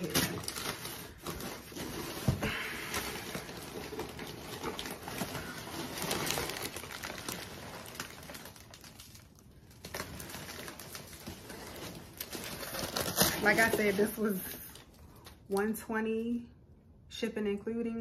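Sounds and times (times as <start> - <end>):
kraft paper rustling: 0.0 - 15.6.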